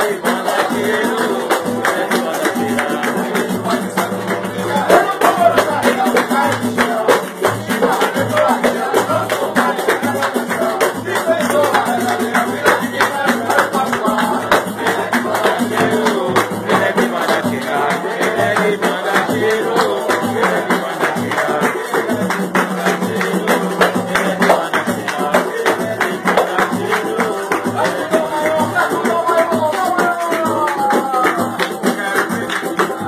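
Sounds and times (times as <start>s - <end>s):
cavaquinho: 0.0s - 33.0s
group singing: 0.0s - 33.0s
hand-clapping: 0.0s - 33.0s
pandeiro: 0.0s - 33.0s
percussion beat: 0.0s - 33.0s.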